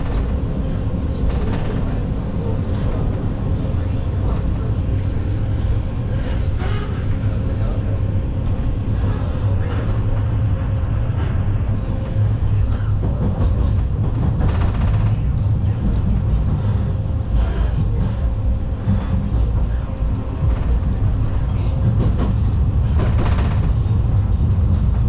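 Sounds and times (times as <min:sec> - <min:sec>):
tram rattling: 0:00.0 - 0:25.0
tram wheels rumbling on rails: 0:00.0 - 0:25.0.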